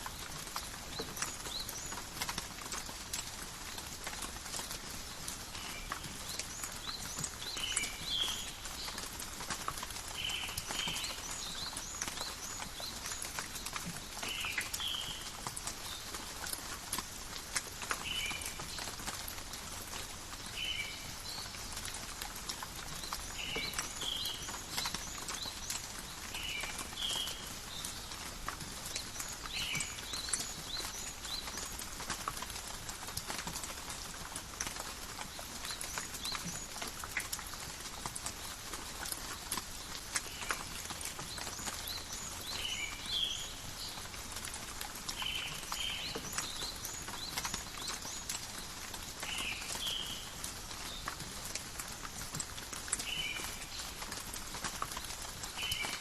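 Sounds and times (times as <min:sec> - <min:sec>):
rain drops pattering: 0:00.0 - 0:56.0.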